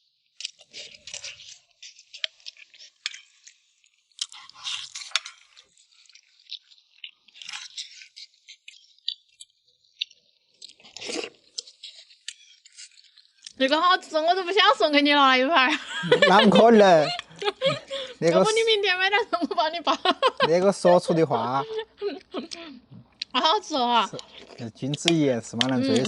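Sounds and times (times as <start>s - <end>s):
people chewing food: 0.2s - 26.0s.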